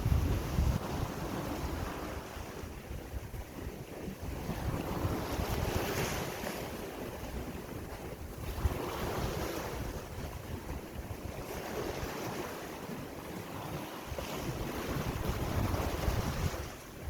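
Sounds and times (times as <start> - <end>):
sea waves washing in: 0.0 - 17.0
wind buffeting microphone: 0.0 - 17.0.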